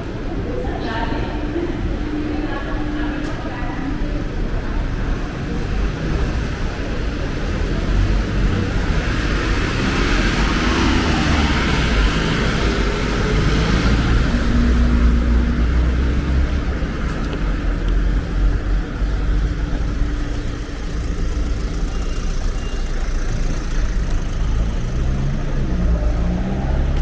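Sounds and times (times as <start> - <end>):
cars driving past: 0.0 - 27.0
low rumble of traffic: 0.0 - 27.0.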